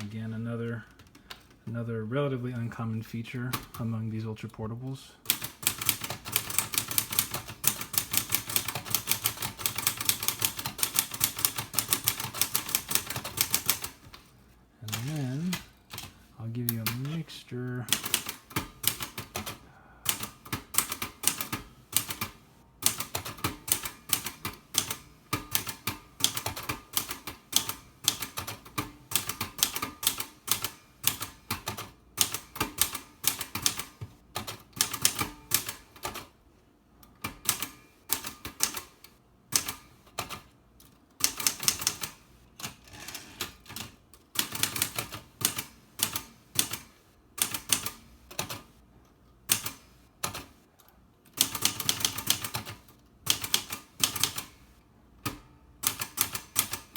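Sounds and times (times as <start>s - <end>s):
manual typewriter typing: 5.2s - 14.2s, 14.8s - 36.3s, 37.1s - 48.7s, 49.5s - 50.6s, 51.3s - 54.6s, 55.2s - 56.9s.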